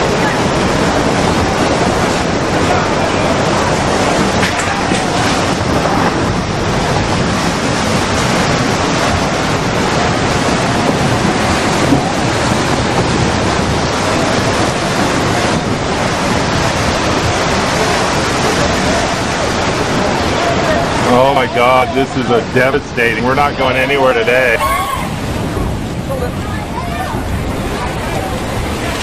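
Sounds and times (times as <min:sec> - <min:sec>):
floodwater rushing: 0:00.0 - 0:29.0
wind on microphone: 0:00.0 - 0:29.0.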